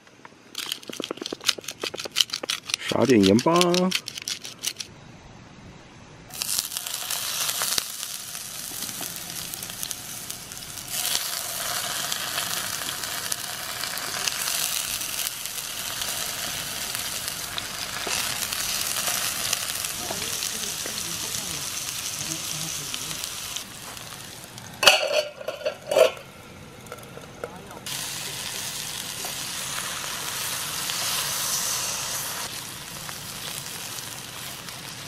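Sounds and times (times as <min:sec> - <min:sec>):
potato slices sizzling in skillet: 0:06.3 - 0:35.0.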